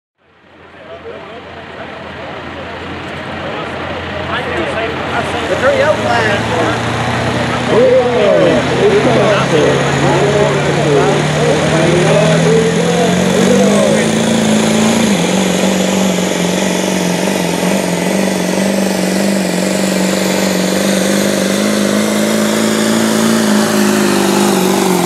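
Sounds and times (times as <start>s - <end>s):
diesel engine at high revs: 0.2s - 25.0s.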